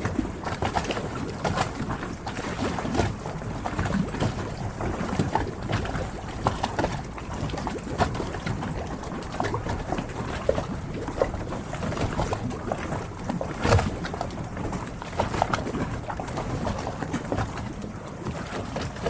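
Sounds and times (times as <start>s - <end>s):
water lapping against boats: 0.0s - 19.0s.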